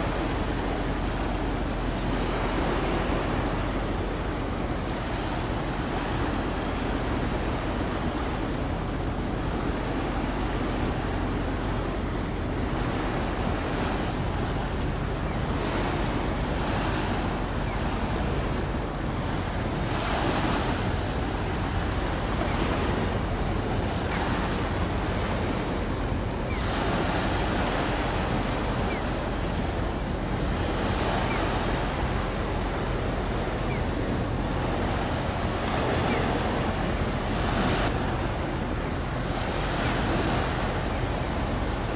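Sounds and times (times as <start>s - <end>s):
sea water surging: 0.0s - 41.9s.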